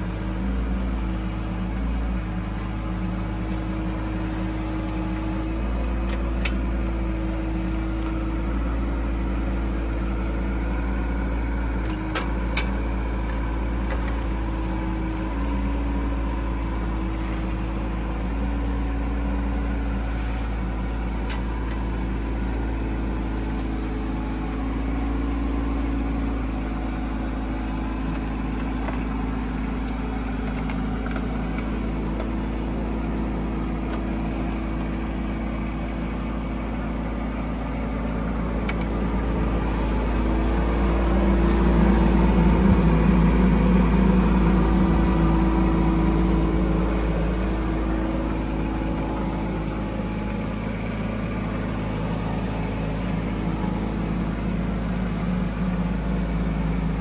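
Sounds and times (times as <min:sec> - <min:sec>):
mini excavator diesel engine running: 0:00.0 - 0:57.0.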